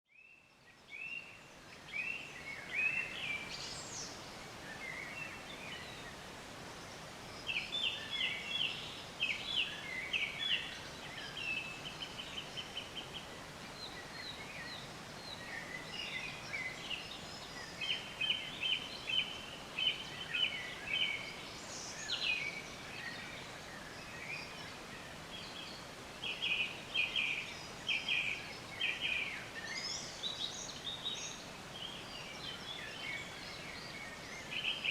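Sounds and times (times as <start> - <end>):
birds singing: 0.1 - 34.9
steady background hiss: 0.1 - 34.9.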